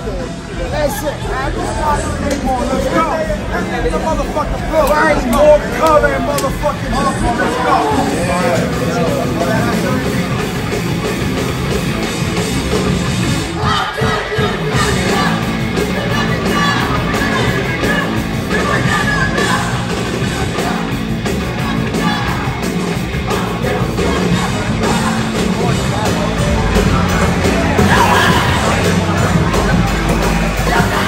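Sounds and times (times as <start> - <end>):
crowd noise: 0.0 - 31.0
distorted guitars: 0.0 - 31.0
drums: 0.0 - 31.0
yelled vocals: 0.0 - 31.0.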